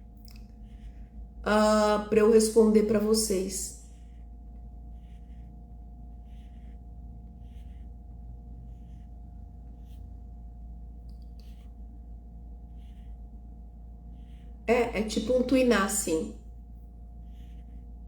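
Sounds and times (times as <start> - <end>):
faint hum of held tones: 0.0 - 18.0.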